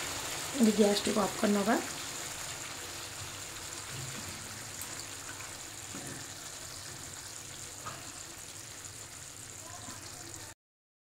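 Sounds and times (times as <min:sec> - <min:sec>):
gravy sizzling in pan: 0:00.0 - 0:10.6.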